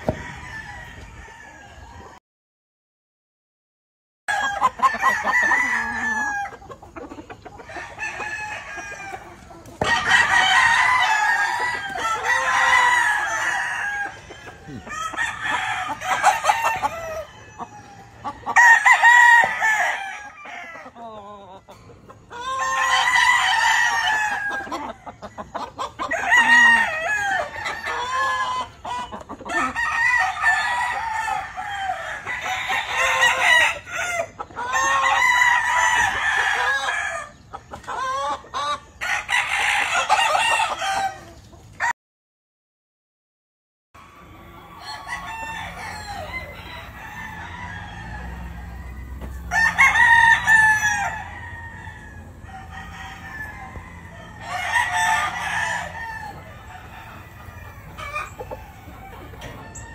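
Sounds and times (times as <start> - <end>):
roosters crowing: 0.0 - 2.2, 4.3 - 41.9, 44.0 - 59.9.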